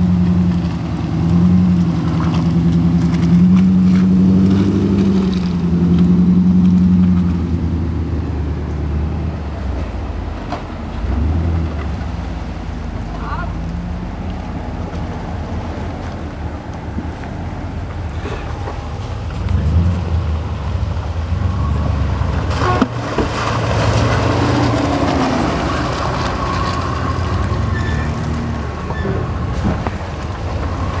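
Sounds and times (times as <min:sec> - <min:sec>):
car engine revving: 0:00.0 - 0:15.8, 0:18.2 - 0:31.0.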